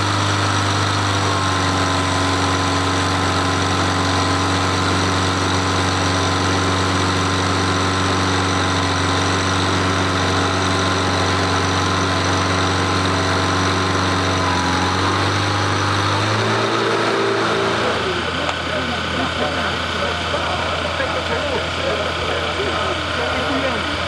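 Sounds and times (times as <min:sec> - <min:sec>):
jet engines idling whine: 0:00.0 - 0:24.0.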